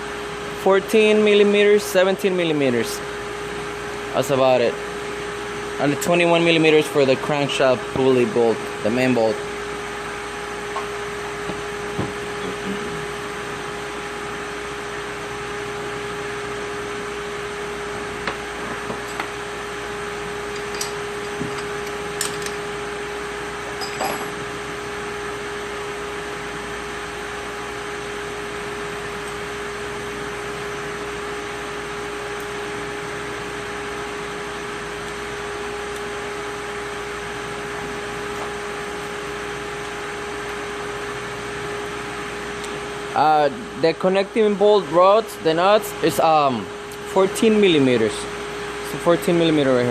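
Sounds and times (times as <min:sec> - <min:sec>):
steady machine hum: 0:00.0 - 0:49.9.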